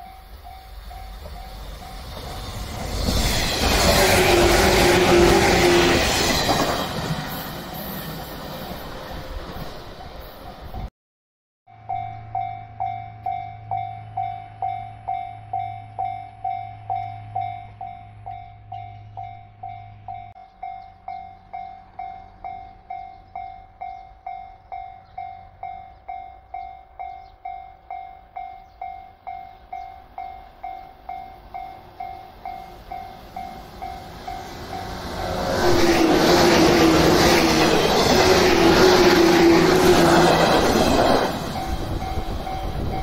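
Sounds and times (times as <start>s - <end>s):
electric train rumble: 0.0s - 10.9s, 11.7s - 43.0s.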